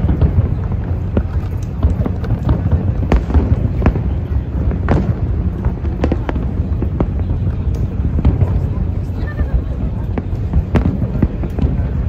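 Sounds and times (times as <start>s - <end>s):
fireworks bangs and crackle: 0.0s - 12.0s.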